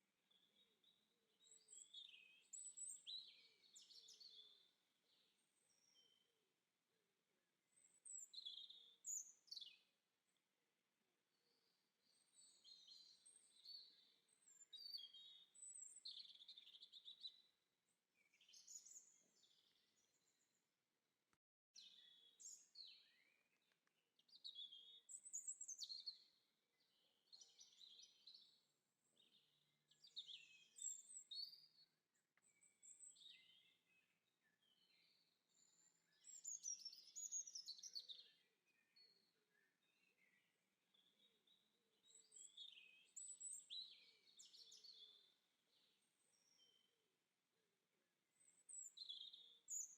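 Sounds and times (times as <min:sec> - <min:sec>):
songbirds chirping and twittering: 0:00.0 - 0:21.2, 0:21.8 - 0:49.9.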